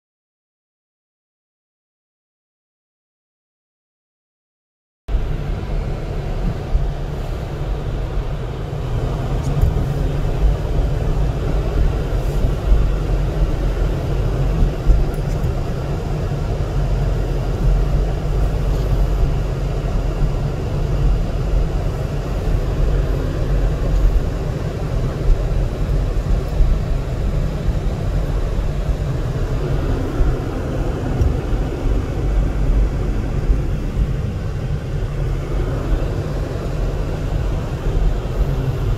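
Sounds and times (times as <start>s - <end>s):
car road and engine noise: 5.1s - 38.9s.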